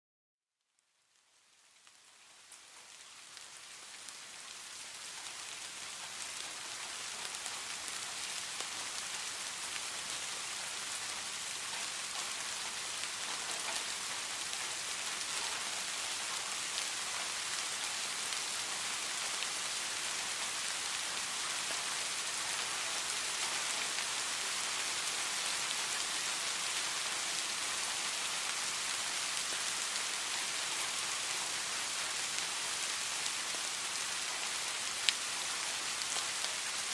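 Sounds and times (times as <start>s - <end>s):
steady rain falling: 0.7s - 36.9s.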